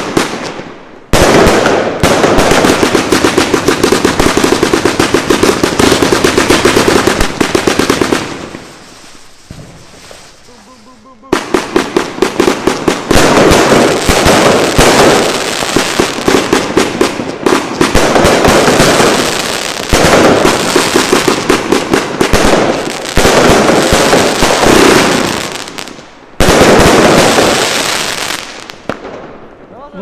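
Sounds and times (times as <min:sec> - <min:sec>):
fireworks barrage launching and bursting: 0:00.0 - 0:29.6.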